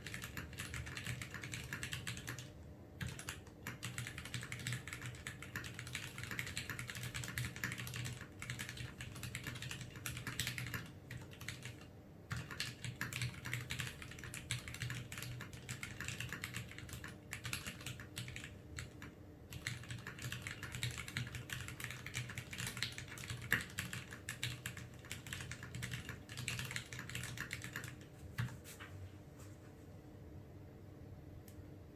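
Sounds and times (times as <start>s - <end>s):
mechanical keyboard typing: 0.0s - 28.6s.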